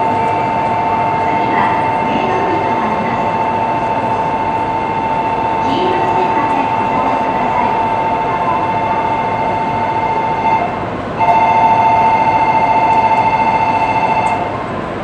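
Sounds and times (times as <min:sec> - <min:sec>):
high-pitched tone: 0:00.0 - 0:14.5
constant hum: 0:00.0 - 0:15.0.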